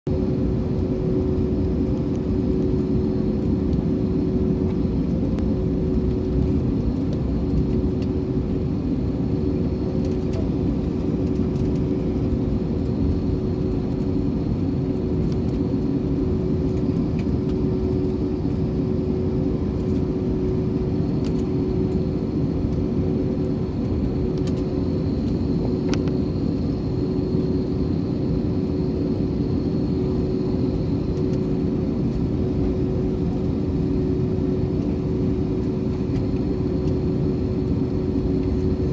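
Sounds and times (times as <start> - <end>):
airliner cabin drone: 0.1 - 38.9.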